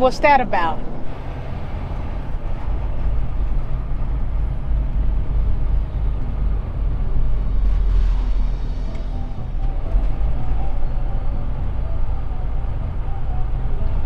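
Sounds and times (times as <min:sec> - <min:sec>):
diesel truck engine rumble: 0:00.0 - 0:14.0
road noise: 0:00.0 - 0:14.0.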